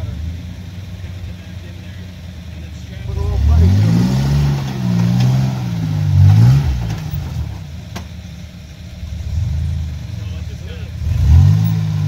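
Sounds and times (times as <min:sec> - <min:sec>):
suv engine revving: 0:00.0 - 0:12.0.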